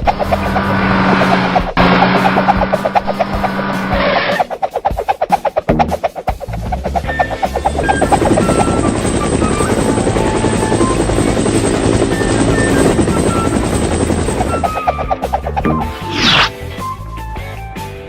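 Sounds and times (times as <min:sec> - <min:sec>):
cartoon helicopter chopping: 0:00.0 - 0:16.5
background music: 0:00.3 - 0:18.0.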